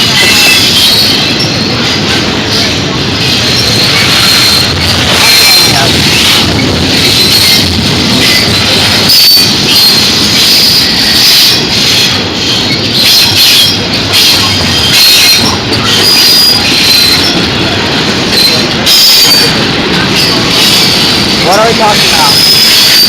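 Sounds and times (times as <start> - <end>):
train wheels rumbling on rail: 0.0 - 23.0
wheel squeal: 0.0 - 23.0.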